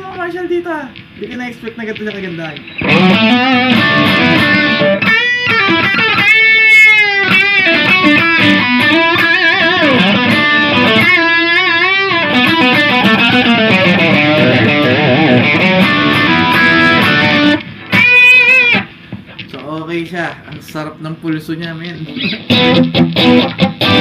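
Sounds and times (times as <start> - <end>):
distorted electric guitar: 0.0 - 20.7, 21.6 - 24.0.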